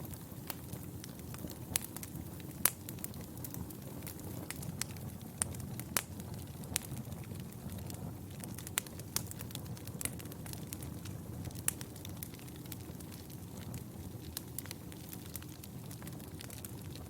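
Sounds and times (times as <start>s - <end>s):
fire crackling and popping: 0.0s - 17.0s
low rumble of flame: 0.0s - 17.0s.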